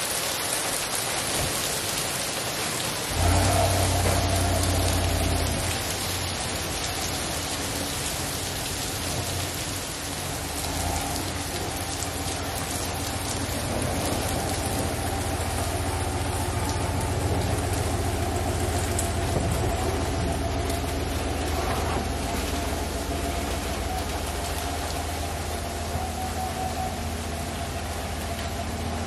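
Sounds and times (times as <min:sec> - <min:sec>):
heavy rain hissing: 0:00.0 - 0:29.0
truck engine humming: 0:03.0 - 0:29.0.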